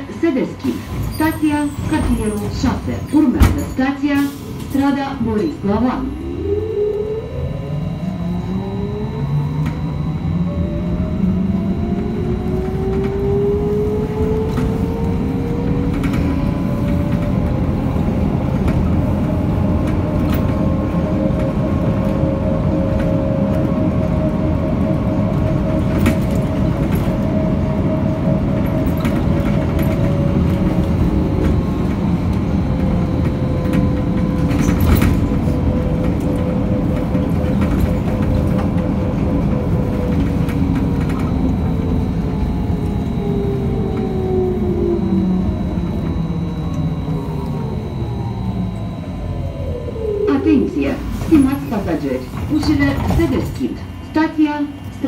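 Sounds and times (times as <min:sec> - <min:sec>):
road rumble: 0:00.0 - 0:55.0
electric drive whine: 0:06.1 - 0:55.0.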